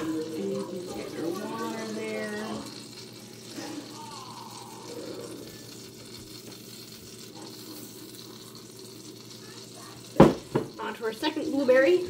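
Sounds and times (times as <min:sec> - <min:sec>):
batter sizzling in frying pan: 0:00.0 - 0:12.0.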